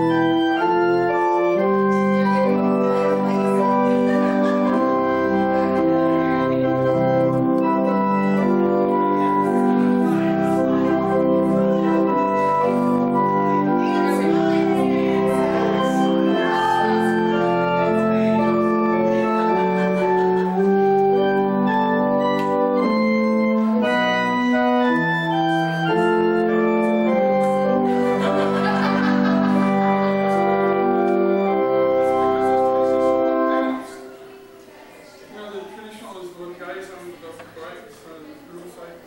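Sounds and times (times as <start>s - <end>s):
organ playing held chords: 0.0s - 34.7s.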